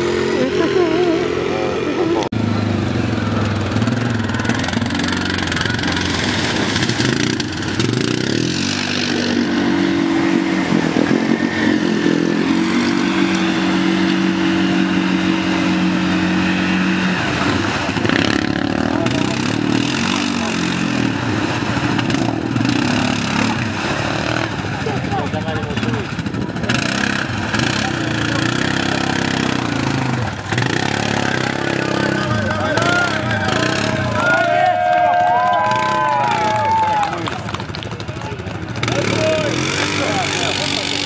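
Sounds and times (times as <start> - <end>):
engine revving hard: 0.0 - 37.3, 38.7 - 41.0.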